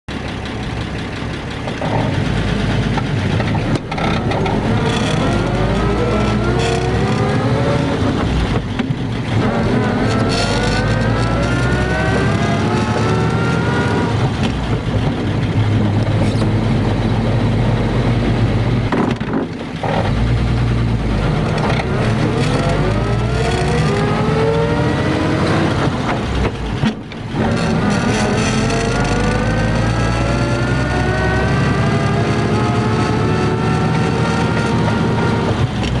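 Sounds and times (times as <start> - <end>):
truck engine accelerating: 0.0 - 36.0
transmission gear whine: 0.1 - 36.0.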